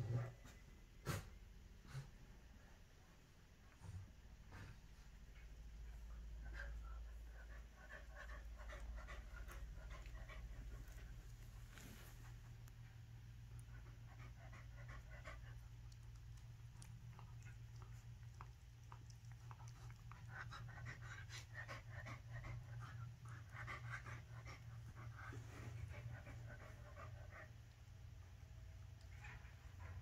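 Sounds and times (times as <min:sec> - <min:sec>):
dog panting: 0:03.6 - 0:30.0.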